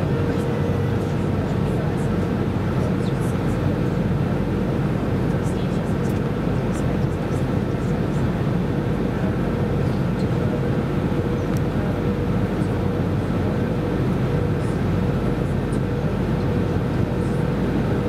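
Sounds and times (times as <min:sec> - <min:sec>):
airliner cabin airflow and engine noise: 0:00.0 - 0:18.0
faint steady hum: 0:00.0 - 0:18.0.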